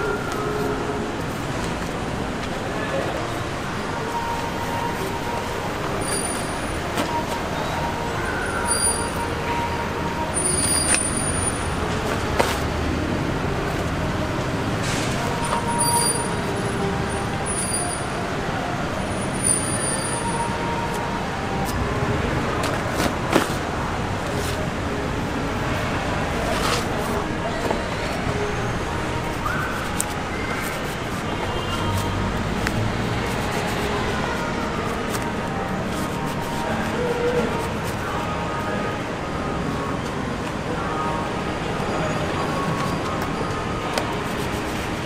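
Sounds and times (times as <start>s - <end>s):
vehicle traffic: 0.0s - 45.0s.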